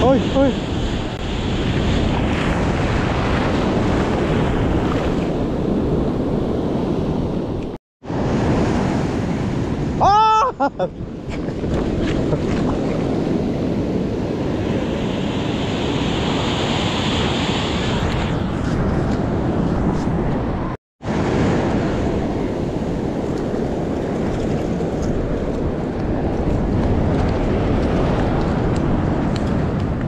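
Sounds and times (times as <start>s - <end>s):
sea waves washing: 0.0s - 30.0s
wind rumbling on microphone: 0.0s - 30.0s.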